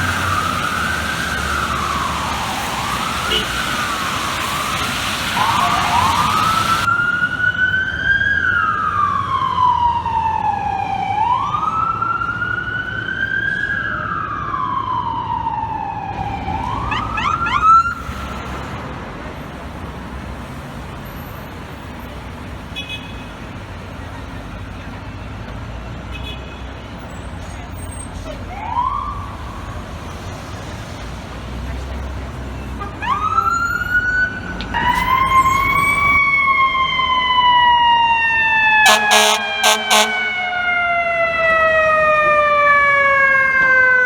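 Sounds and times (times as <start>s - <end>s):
fire truck siren wailing: 0.0s - 22.2s, 27.0s - 44.0s
street traffic noise: 0.0s - 44.0s.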